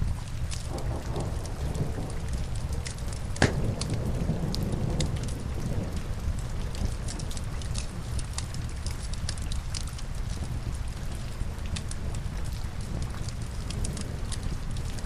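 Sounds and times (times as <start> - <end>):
rain rumbling: 0.0 - 15.0
wood fire crackling and popping: 0.0 - 15.0.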